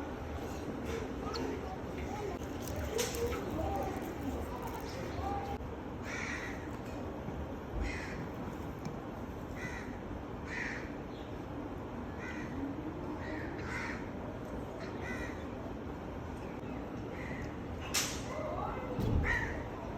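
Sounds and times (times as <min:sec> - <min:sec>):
low background noise: 0:00.0 - 0:19.9.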